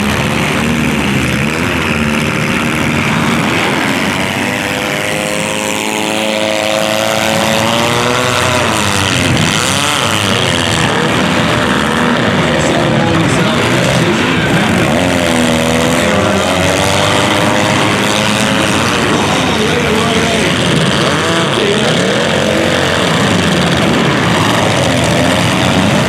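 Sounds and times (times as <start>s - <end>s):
car engines revving together: 0.0s - 26.0s.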